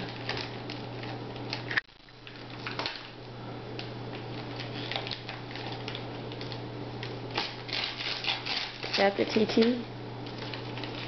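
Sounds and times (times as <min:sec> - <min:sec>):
wrapping paper crinkling and tearing: 0:00.0 - 0:03.2, 0:03.8 - 0:09.6, 0:10.2 - 0:11.0.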